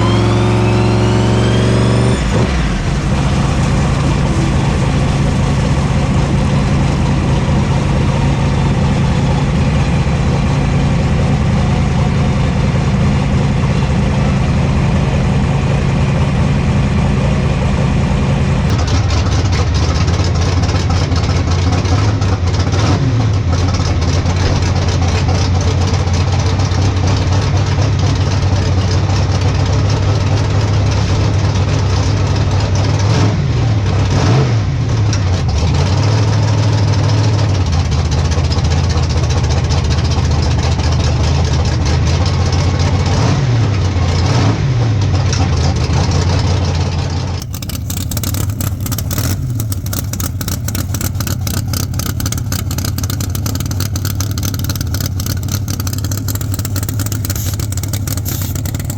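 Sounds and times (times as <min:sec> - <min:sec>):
race car engine running loud: 0:00.0 - 0:58.9.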